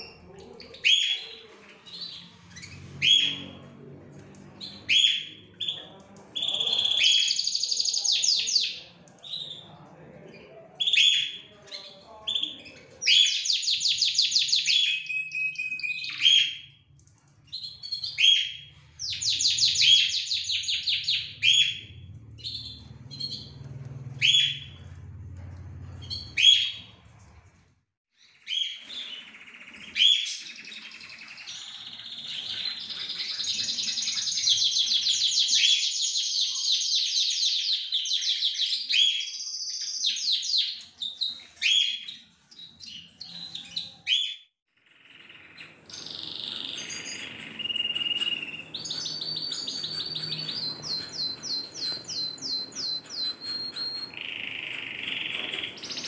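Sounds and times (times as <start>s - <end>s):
canary trilling and chirping: 0.0s - 27.4s, 28.2s - 56.0s.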